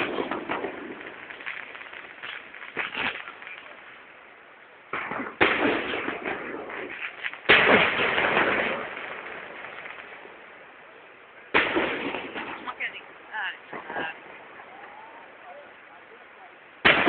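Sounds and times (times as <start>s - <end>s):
fireworks bangs: 0.0s - 4.1s, 4.8s - 10.6s, 11.4s - 17.0s
fireworks crackling: 0.0s - 17.0s.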